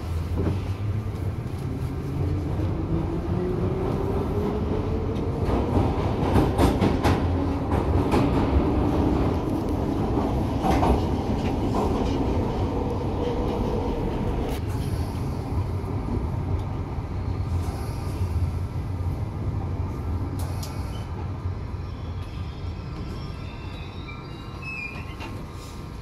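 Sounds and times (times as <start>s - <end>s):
train wheels rumbling in tunnel: 0.0s - 26.0s.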